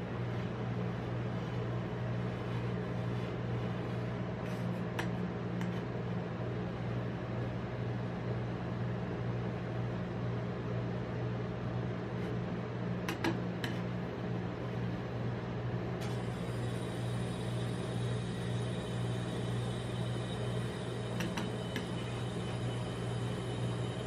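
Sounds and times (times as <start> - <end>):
low hum of cold plate: 0.0 - 9.9, 11.0 - 24.0.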